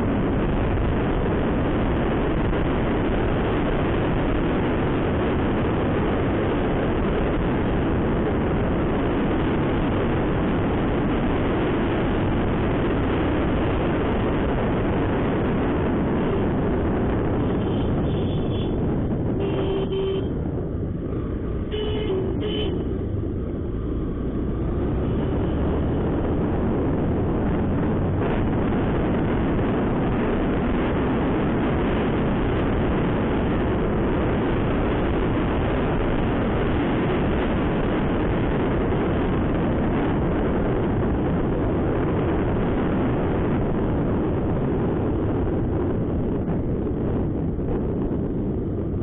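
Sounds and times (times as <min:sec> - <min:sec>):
wind buffeting microphone: 0:00.0 - 0:21.7, 0:22.3 - 0:49.0.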